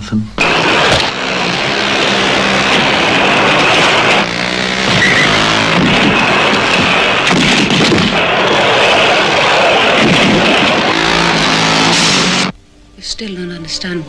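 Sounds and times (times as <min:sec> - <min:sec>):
engine revving up: 0:00.4 - 0:12.5
vehicle engines racing: 0:00.4 - 0:12.5
loud steady din: 0:00.4 - 0:12.6.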